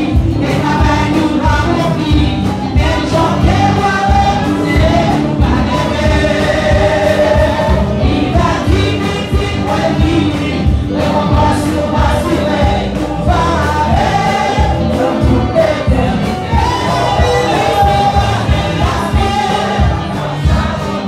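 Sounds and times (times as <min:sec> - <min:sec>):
choir singing gospel song: 0:00.0 - 0:21.0
musical backing: 0:00.0 - 0:21.0.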